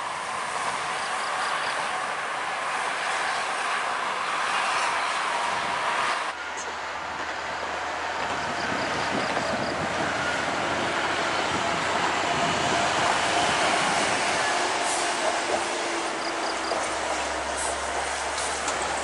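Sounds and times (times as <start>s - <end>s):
bus engine and tyre noise: 0.0s - 19.0s.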